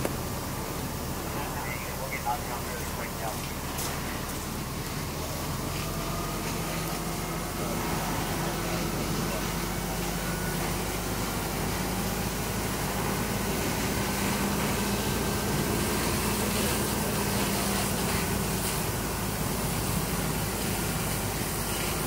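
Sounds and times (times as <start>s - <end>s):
constant hiss: 0.0s - 22.0s
engine hum: 0.0s - 22.0s
fire hose spraying water: 0.0s - 22.0s.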